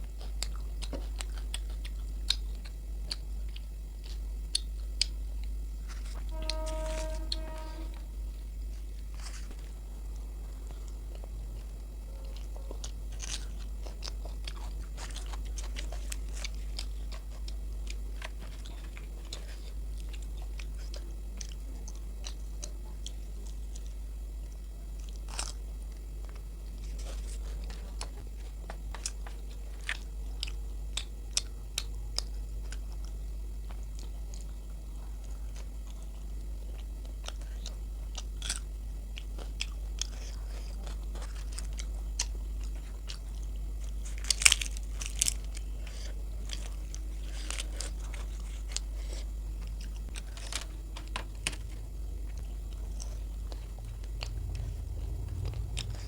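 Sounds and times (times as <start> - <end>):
chewing with wet mouth smacks: 0.0 - 6.2, 10.4 - 56.0
steady low hum: 0.0 - 56.0.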